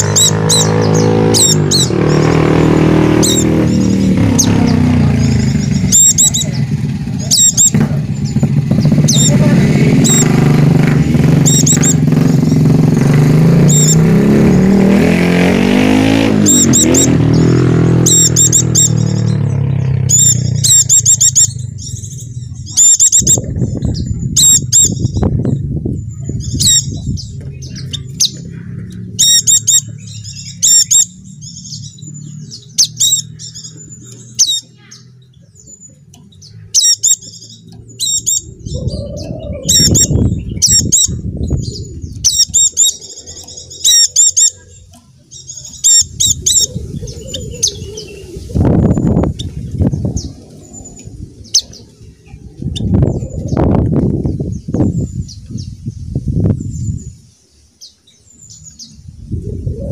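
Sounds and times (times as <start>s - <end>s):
bird high chirps: 0.0s - 10.6s, 11.2s - 12.7s, 13.6s - 59.9s
motor engine running: 0.0s - 55.7s.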